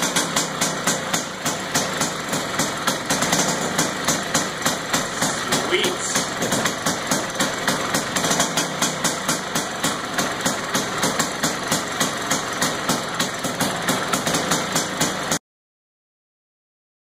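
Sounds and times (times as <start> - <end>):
scooter engine idling: 0.0 - 15.4.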